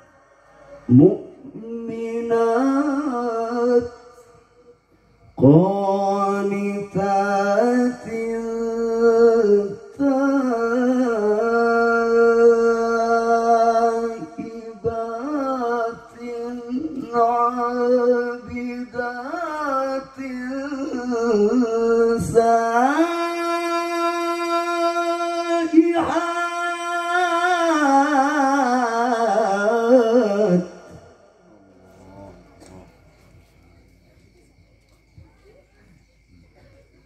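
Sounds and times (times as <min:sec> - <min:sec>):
man reciting melodically over pa: 0:00.0 - 0:34.6.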